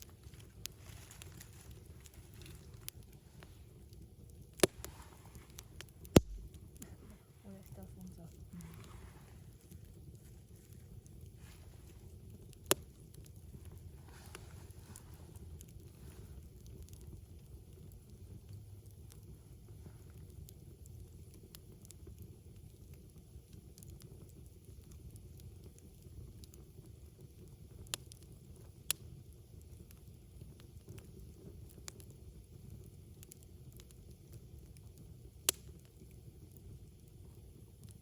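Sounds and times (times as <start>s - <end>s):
campfire crackling: 0.0s - 38.0s
fire snapping: 0.0s - 38.0s.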